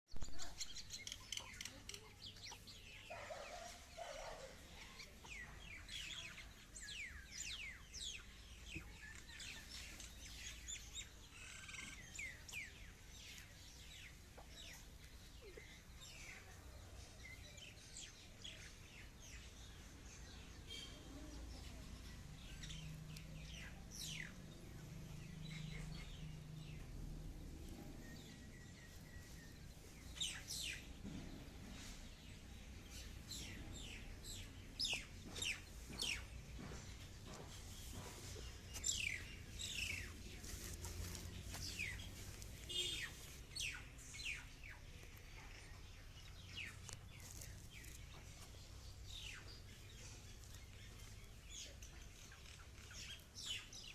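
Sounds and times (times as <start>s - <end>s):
birds chirping: 0.1s - 53.9s.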